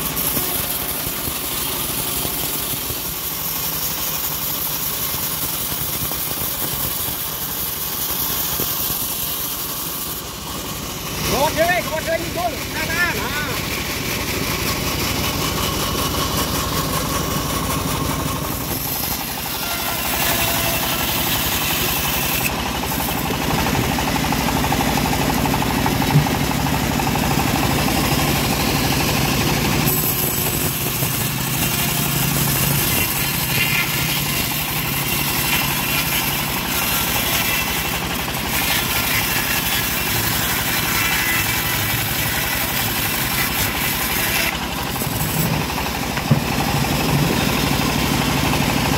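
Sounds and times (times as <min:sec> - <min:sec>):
bandsaw mill cutting log: 0:00.0 - 0:48.9.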